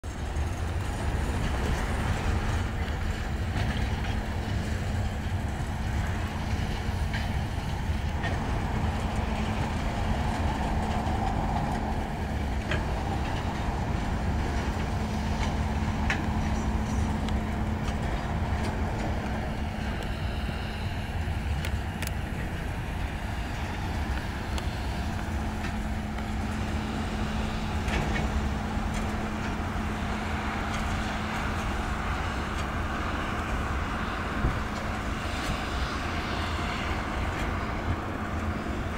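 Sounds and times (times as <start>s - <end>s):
freight train rumbling: 0.0s - 38.9s.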